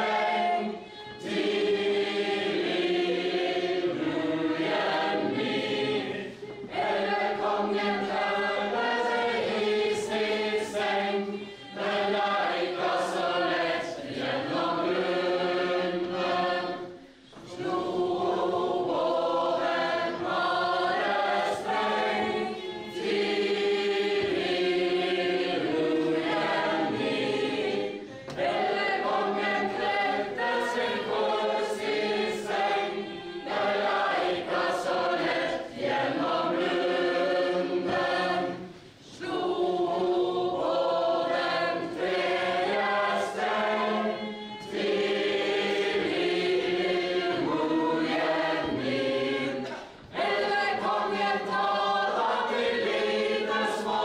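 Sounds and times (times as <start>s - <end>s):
crowd singing unaccompanied: 0.0s - 54.0s.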